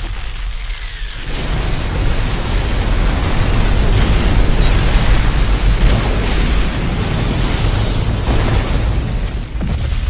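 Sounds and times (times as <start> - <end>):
sustained explosion rumble: 1.1 - 10.0.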